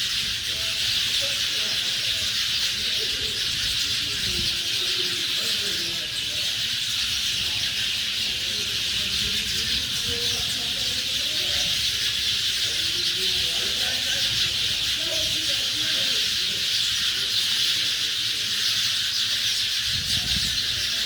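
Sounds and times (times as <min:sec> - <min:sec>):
small birds chattering chorus: 0:00.0 - 0:21.0.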